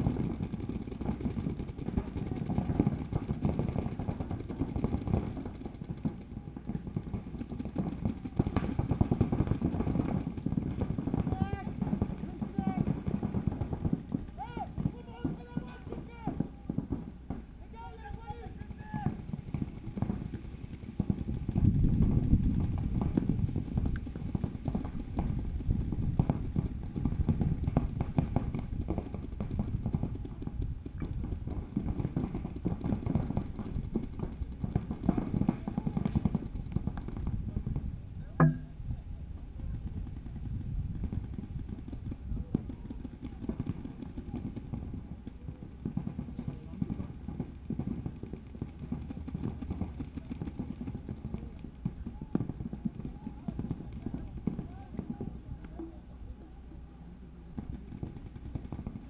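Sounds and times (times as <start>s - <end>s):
paintball markers firing: 0.0s - 37.4s, 39.6s - 55.9s, 57.6s - 59.0s.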